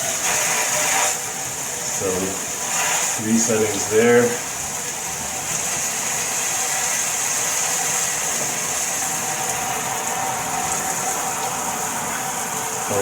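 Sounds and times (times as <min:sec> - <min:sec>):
shower spraying water: 0:00.0 - 0:13.0.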